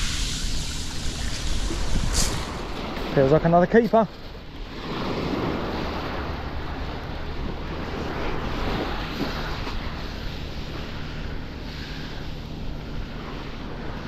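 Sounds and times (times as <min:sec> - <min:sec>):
wind buffeting microphone: 0:00.0 - 0:11.7
waves on shingle beach: 0:00.0 - 0:14.0.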